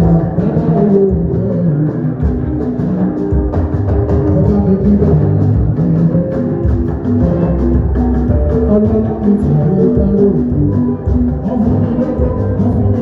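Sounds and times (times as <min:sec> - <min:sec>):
drums keeping a steady beat: 0:00.0 - 0:13.0
held low notes: 0:00.0 - 0:13.0
live band music: 0:00.0 - 0:13.0.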